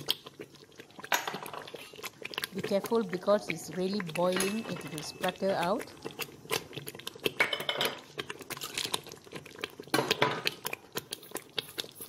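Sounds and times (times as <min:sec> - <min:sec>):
sauce boiling and spluttering: 0:00.0 - 0:12.0
utensil scraping against pot: 0:01.1 - 0:12.0.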